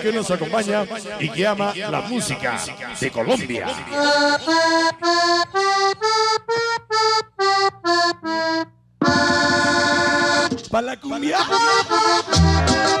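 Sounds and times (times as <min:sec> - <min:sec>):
accordion over loudspeakers: 0:00.0 - 0:13.0.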